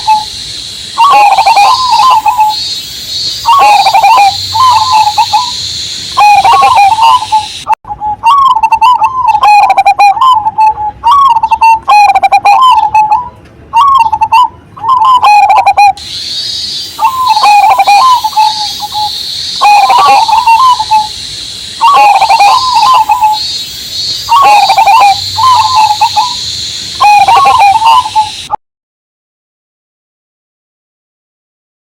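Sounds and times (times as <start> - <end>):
dove cooing: 0.0 - 0.4, 1.0 - 21.2, 21.8 - 28.6
cicada drone: 0.0 - 28.6.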